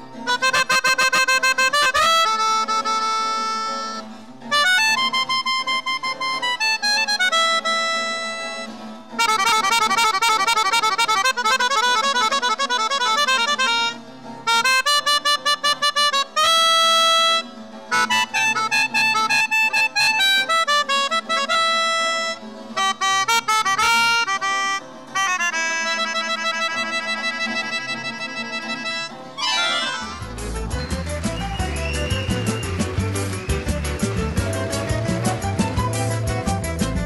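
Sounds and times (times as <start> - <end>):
acoustic guitar accompaniment: 0.0 - 37.0
melodica playing: 0.0 - 37.0.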